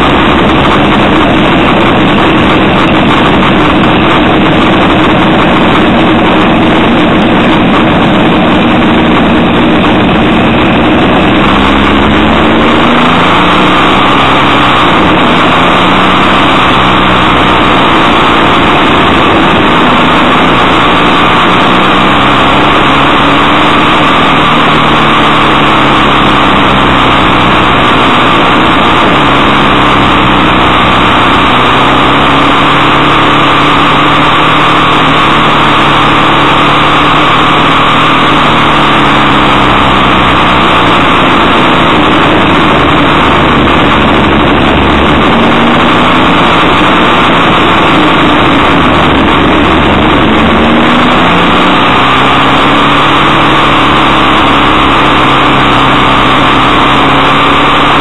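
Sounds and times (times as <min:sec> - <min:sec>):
motorcycle engine revving: 0:00.0 - 0:58.0
wind rush on microphone: 0:00.0 - 0:58.0.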